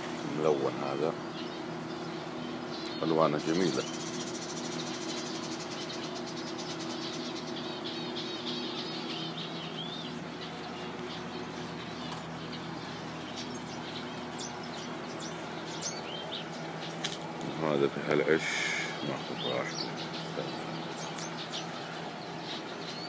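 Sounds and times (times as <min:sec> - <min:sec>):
steady low hum: 0:00.0 - 0:23.0
finches chirping: 0:00.2 - 0:23.0.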